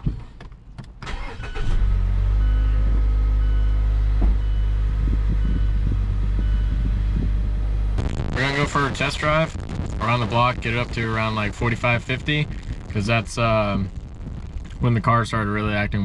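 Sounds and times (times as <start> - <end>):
car engine starting and idling: 0.0 - 15.8.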